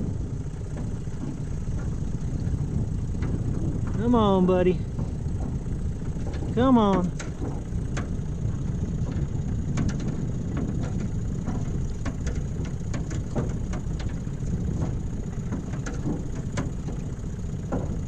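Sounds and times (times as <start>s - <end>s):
steady low rumble: 0.0s - 18.0s
water slapping against metal boat: 0.0s - 18.0s.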